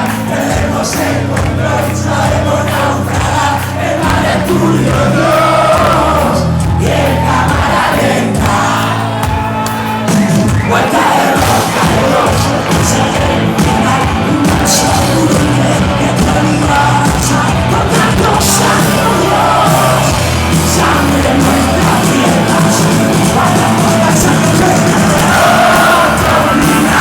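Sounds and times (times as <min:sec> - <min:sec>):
band playing loud music: 0:00.0 - 0:27.0
singer yelling: 0:00.7 - 0:27.0.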